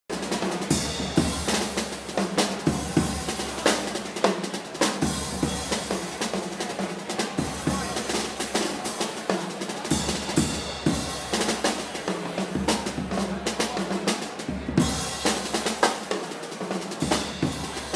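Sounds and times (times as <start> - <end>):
jazz drum kit: 0.0 - 17.9.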